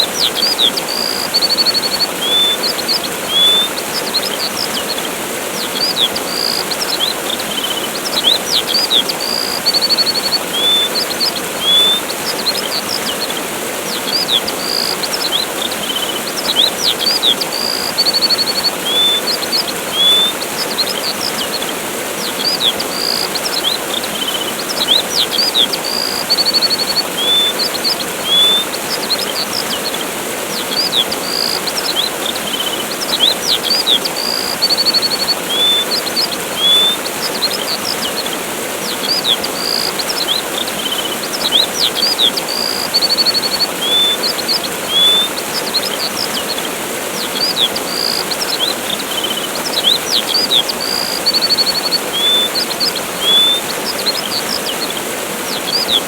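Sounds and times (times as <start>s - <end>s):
songbirds chirping: 0.0s - 56.0s
waterfall rushing: 0.0s - 56.0s.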